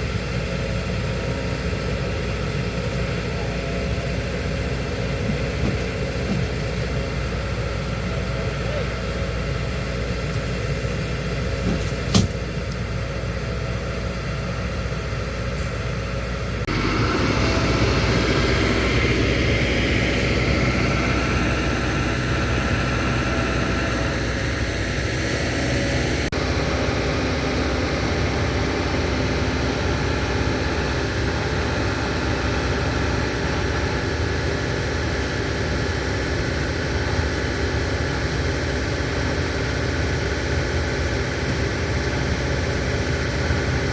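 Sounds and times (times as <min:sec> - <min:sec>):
heavy engine running: 0:00.0 - 0:43.9.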